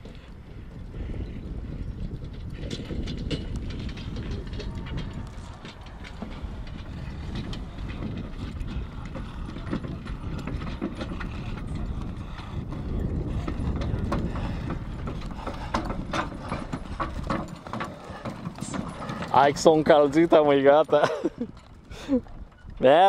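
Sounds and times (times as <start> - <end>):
horse hooves clip-clopping: 0.0 - 23.0
cart rattling: 1.0 - 23.0.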